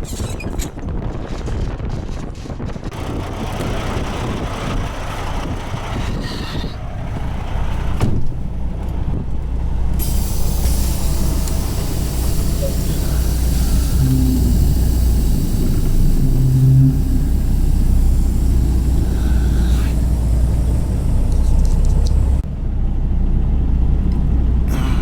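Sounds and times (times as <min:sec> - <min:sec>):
diesel truck engine rumbling: 0:02.6 - 0:25.0.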